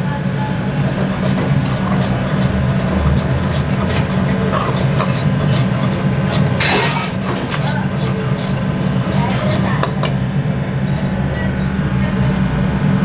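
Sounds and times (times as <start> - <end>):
low machine hum: 0.0 - 13.0
metal ladle scraping a pan: 0.5 - 11.2.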